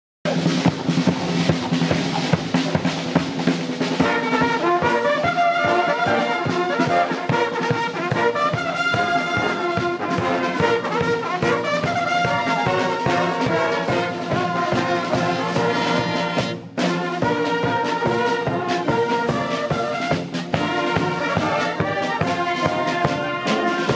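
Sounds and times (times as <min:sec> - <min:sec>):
drum beats: 0:00.3 - 0:23.9
military brass band playing: 0:00.3 - 0:23.9.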